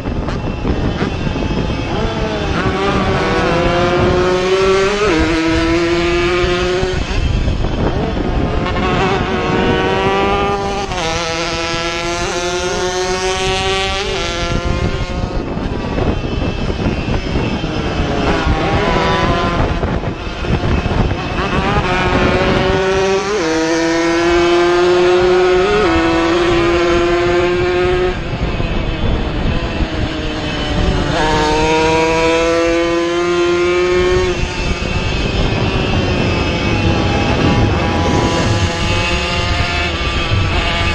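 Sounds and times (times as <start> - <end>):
racing motorcycle engines revving: 0.0 - 40.9.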